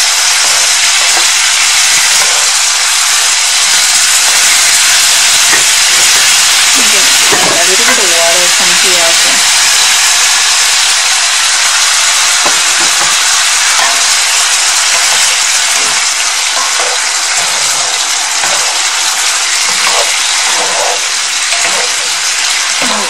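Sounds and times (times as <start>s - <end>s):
chicken sizzling in hot oil: 0.0s - 23.0s
spatula scraping skillet: 0.1s - 23.0s.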